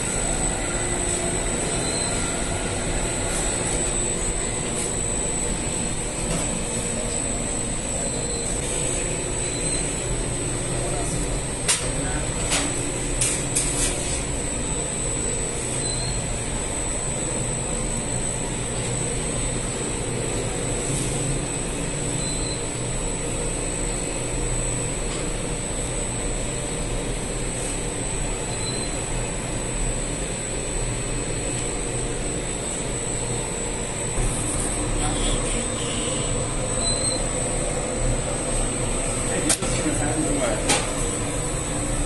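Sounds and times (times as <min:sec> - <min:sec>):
dough machine hum and whine: 0:00.0 - 0:42.0.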